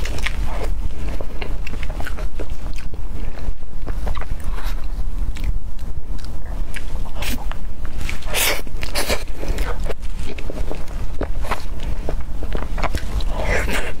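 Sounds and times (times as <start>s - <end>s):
chewing with wet mouth clicks: 0.0s - 14.0s
steady low rumble: 0.0s - 14.0s.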